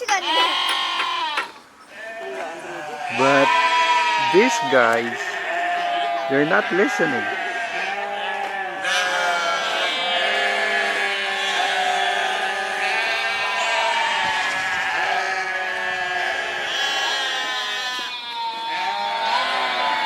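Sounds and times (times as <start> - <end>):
sheep bleating: 0.1 - 20.0.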